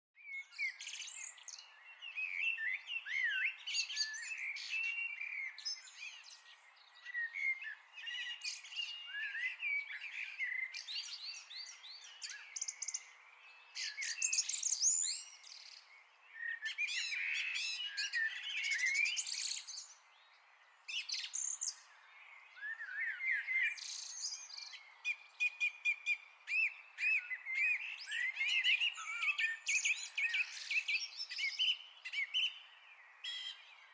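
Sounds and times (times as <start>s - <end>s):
birds chirping and singing: 0.2s - 33.9s.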